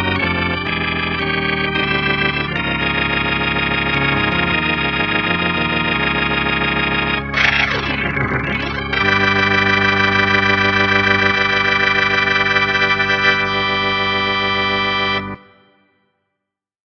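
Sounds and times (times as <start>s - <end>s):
organ sustained chord: 0.0s - 15.7s.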